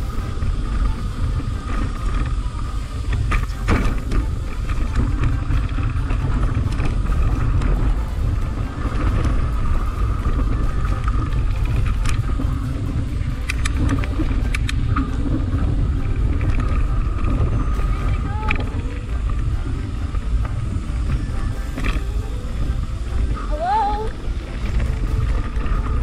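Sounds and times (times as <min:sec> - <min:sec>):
bike clicking and rattling: 0:00.0 - 0:26.0
tyres rolling on dirt: 0:00.0 - 0:26.0
wind buffeting microphone: 0:00.0 - 0:26.0.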